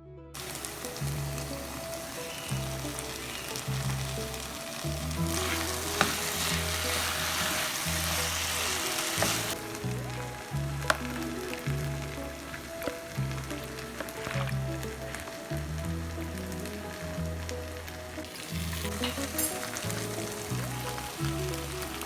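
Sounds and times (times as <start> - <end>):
background music: 0.0 - 22.0
food sizzling in a pan: 0.4 - 22.0.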